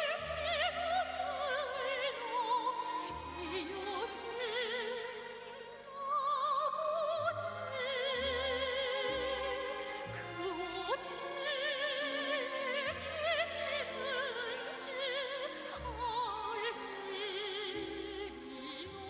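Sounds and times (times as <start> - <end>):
operatic singing: 0.0 - 19.0.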